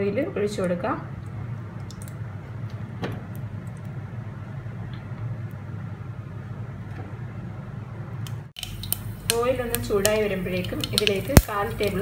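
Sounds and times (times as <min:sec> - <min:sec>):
gas burner rumbling: 0:00.0 - 0:12.0.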